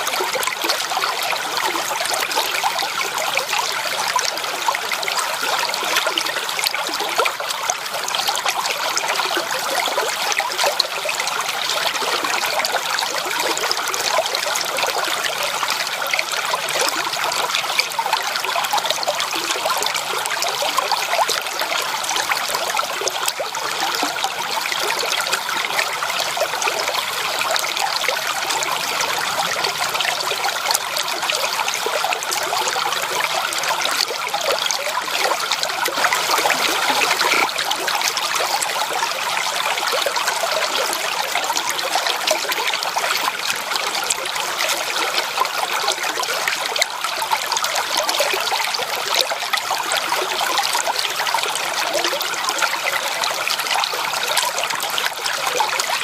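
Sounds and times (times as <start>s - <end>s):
stream water splashing and bubbling: 0.0s - 56.0s.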